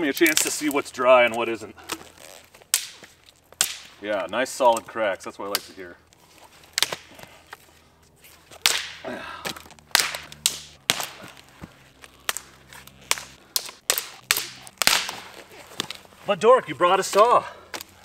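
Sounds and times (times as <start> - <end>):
branches snapping underfoot: 0.0 - 16.2, 17.0 - 18.0.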